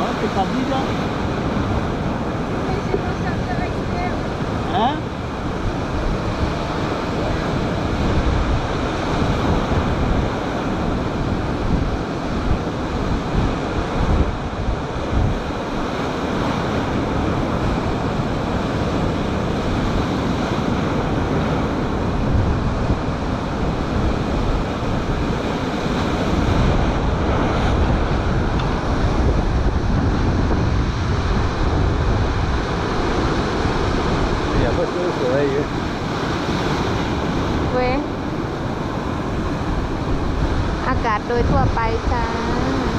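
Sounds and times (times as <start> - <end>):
sea surf breaking on shore: 0.0 - 42.9
wind buffeting microphone: 0.0 - 42.9.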